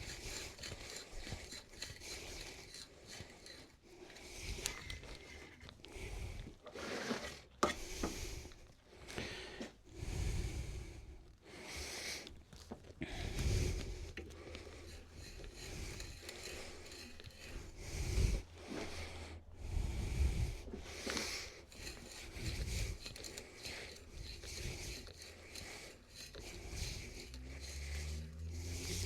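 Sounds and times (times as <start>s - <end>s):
hand tools scraping wood: 0.0s - 8.6s, 12.1s - 19.4s, 20.4s - 29.0s.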